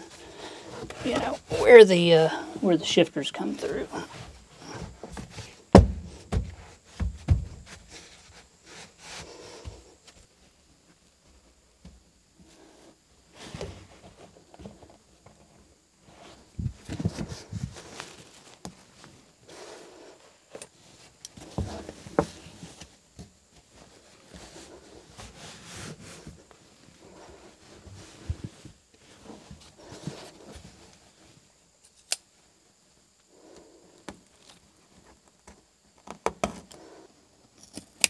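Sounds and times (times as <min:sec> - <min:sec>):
carpet rustling and scraping: 0:00.0 - 0:31.6.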